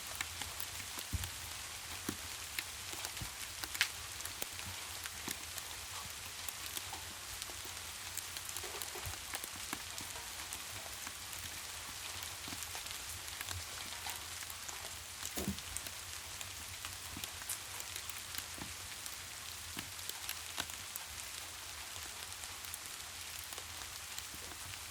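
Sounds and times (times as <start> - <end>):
steady rain: 0.0 - 24.9
wood fire crackling: 0.0 - 24.9.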